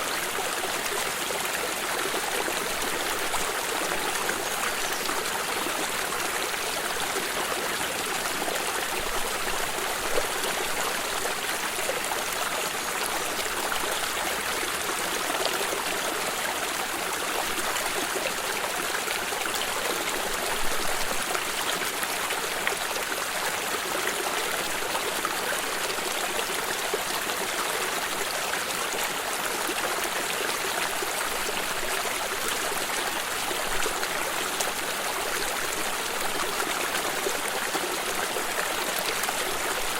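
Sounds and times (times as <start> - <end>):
stream of water trickling: 0.0 - 39.9.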